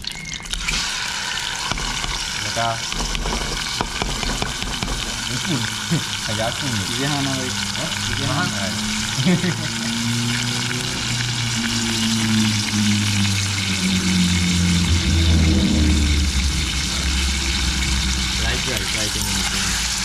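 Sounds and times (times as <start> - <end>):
food frying in oil: 0.0 - 20.0
deep hum: 1.7 - 20.0.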